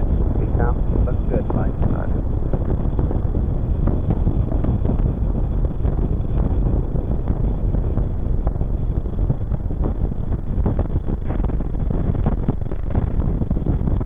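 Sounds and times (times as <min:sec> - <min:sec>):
rocket engines rumbling: 0:00.0 - 0:14.0.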